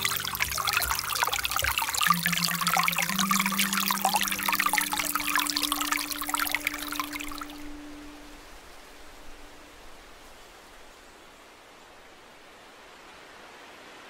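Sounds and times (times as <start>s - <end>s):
creek babbling over rocks: 0.0s - 13.6s.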